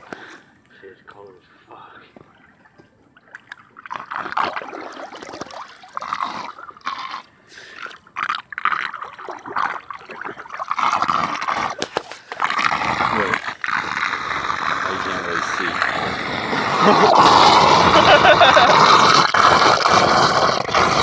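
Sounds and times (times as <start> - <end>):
floodwater trickling and gurgling: 0.0 - 21.0.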